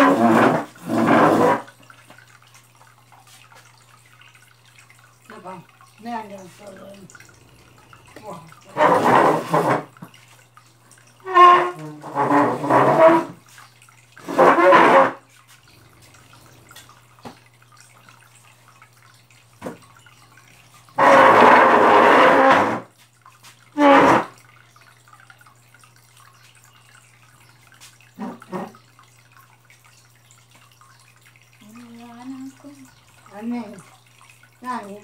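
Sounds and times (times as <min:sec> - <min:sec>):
aquarium pump humming: 0:00.0 - 0:35.0
water dripping into tank: 0:00.0 - 0:35.0.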